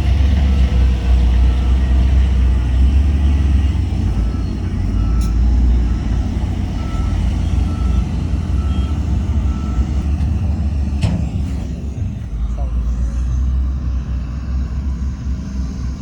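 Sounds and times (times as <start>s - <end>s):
diesel machine rumbling: 0.0s - 16.0s.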